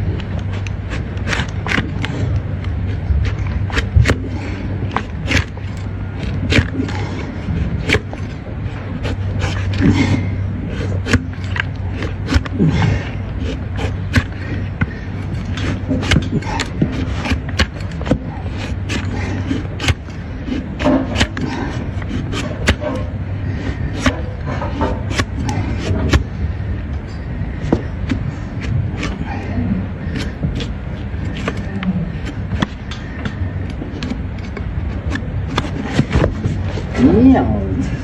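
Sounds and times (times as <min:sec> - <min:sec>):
knife scraping hoof: 0:00.0 - 0:38.0
steady low hum: 0:00.0 - 0:38.0.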